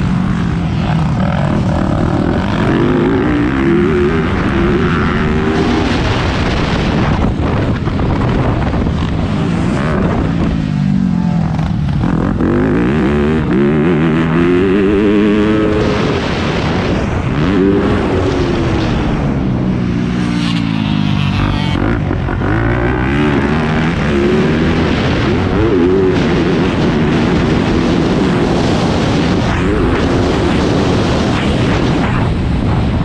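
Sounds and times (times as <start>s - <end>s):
motocross bike engine revving: 0.0s - 32.1s.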